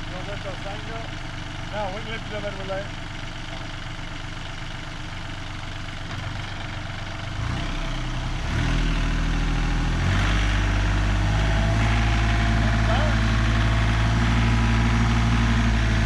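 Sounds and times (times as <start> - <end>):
engine idling and revving: 0.0 - 16.0.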